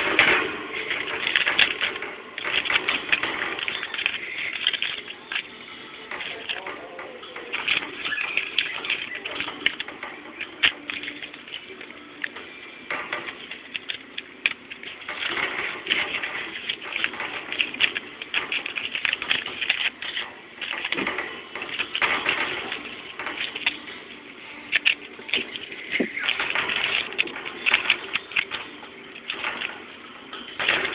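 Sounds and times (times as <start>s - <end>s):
paper crinkling and rustling: 0.0s - 30.9s.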